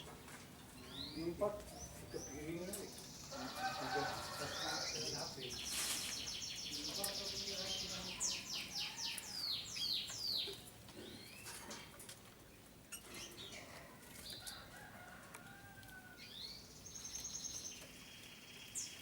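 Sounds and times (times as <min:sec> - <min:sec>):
canaries singing: 0:00.0 - 0:19.0.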